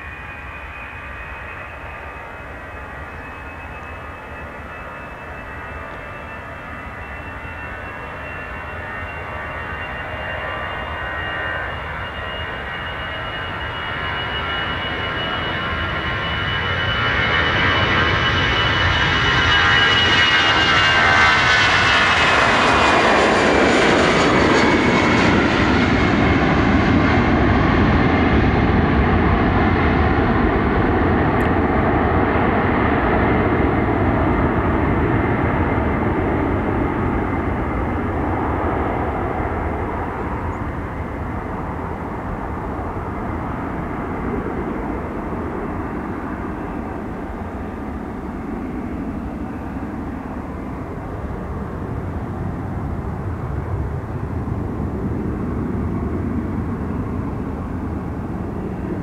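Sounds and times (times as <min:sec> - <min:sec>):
jet engines roaring at takeoff: 0:00.0 - 0:59.0.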